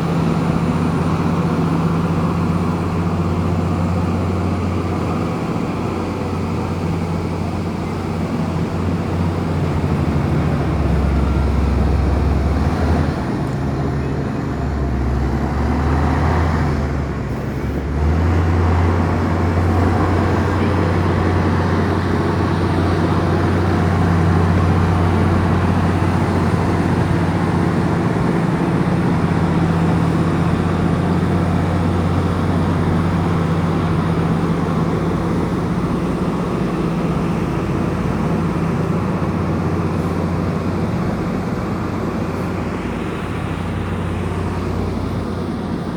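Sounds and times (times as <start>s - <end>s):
bulldozer diesel engine: 0.0s - 45.9s.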